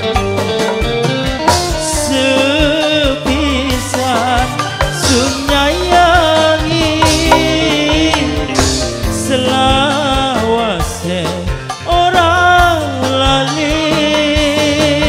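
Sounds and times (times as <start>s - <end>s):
drums steady beat: 0.0s - 15.0s
ornamented melody line: 0.0s - 15.0s.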